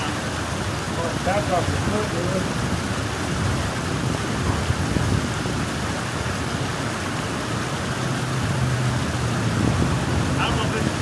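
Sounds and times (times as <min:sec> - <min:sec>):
water rushing through drain: 0:00.0 - 0:11.0.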